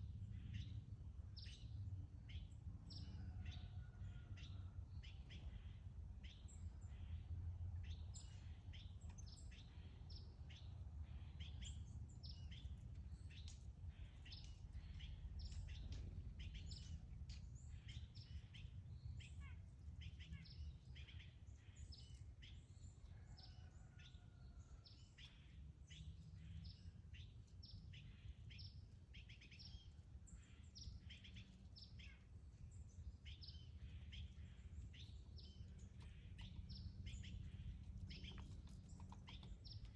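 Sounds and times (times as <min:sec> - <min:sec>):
low background rumble: 0:00.0 - 0:23.1, 0:24.6 - 0:39.9
small birds chirping: 0:00.0 - 0:39.9.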